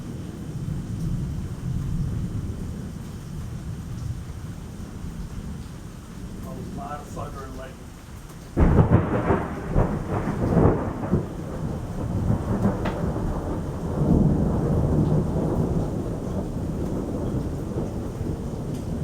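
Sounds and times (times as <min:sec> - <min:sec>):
steady rain: 0:00.0 - 0:19.0
thunder rumbling: 0:00.0 - 0:19.0.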